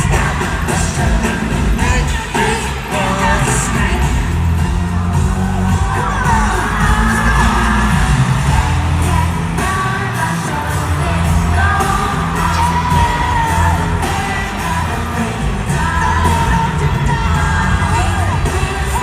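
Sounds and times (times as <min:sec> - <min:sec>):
fans yelling and whooping: 0:00.0 - 0:19.0
heavy bass: 0:00.0 - 0:19.0
lead vocal singing: 0:00.0 - 0:19.0
live pop concert music: 0:00.0 - 0:19.0.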